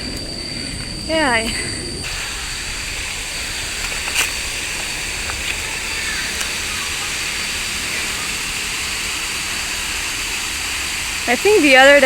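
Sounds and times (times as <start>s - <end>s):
waterfall rushing: 2.1s - 12.0s.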